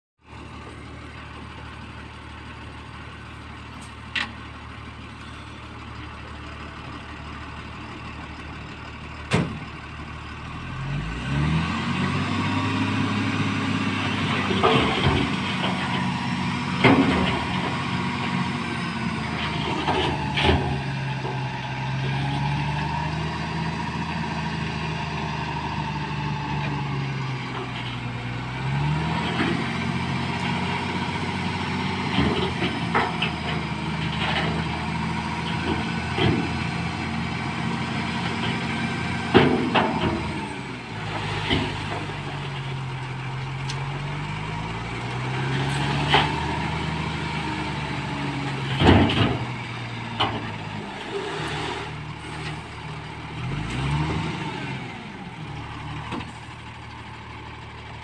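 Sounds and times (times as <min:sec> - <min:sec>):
truck diesel engine idling and revving: 0:00.2 - 0:58.0.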